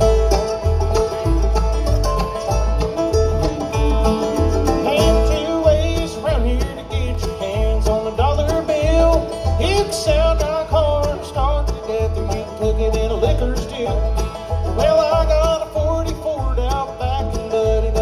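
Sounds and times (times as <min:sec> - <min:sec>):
bass beat: 0:00.0 - 0:18.0
country bluegrass band playing: 0:00.0 - 0:18.0
plucked strings: 0:00.0 - 0:18.0.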